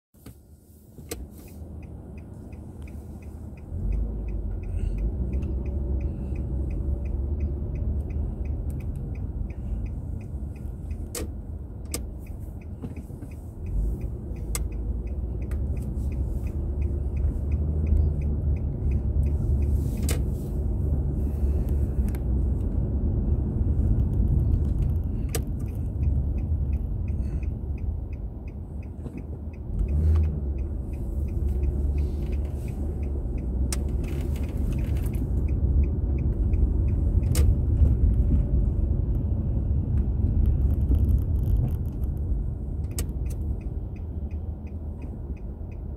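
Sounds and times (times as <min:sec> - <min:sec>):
car engine and road rumble: 0:00.1 - 0:45.9
light regular ticking: 0:01.0 - 0:45.9.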